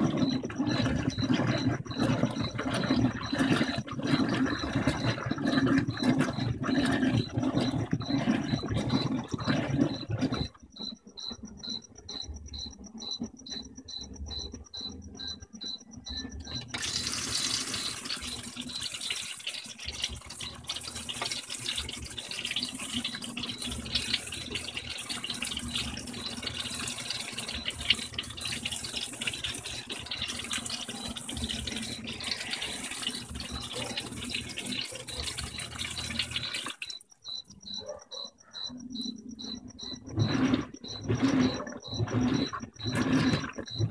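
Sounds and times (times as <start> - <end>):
washer motor hum: 0.0 - 43.9
water spraying in washer: 0.0 - 43.9.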